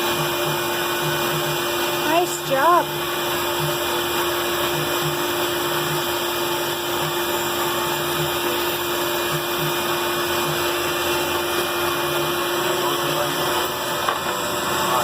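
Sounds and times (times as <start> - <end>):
band saw running: 0.0 - 15.0.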